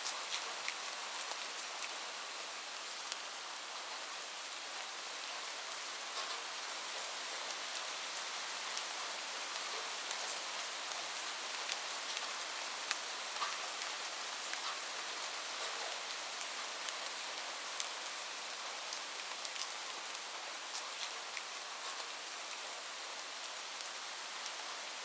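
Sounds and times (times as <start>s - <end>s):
rain on a roof: 0.0s - 25.0s.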